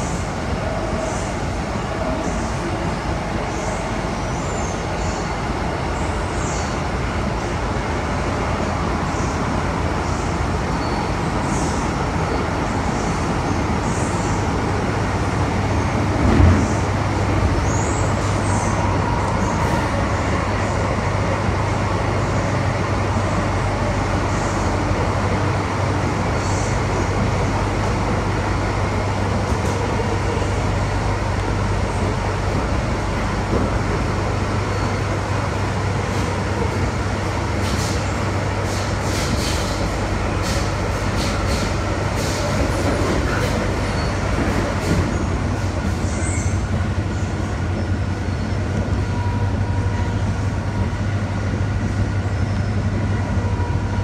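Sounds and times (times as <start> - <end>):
train hum and rumble: 0.0 - 54.0.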